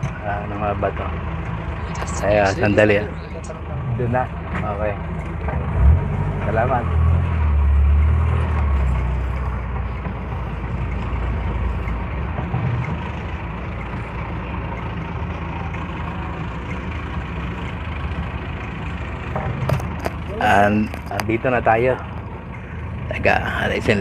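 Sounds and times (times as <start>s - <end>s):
jeep engine running: 0.0s - 24.0s
road noise: 0.0s - 24.0s.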